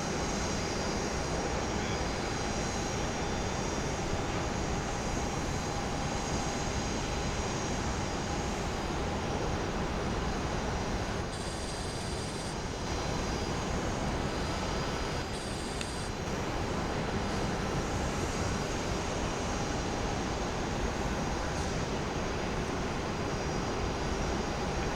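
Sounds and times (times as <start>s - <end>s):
jet engines running: 0.0s - 24.9s.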